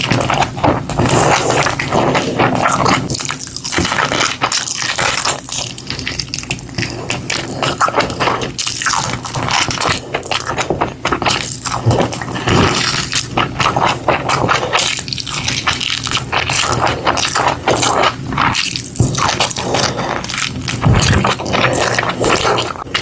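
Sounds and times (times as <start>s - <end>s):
wet chewing with mouth clicks: 0.0s - 23.0s.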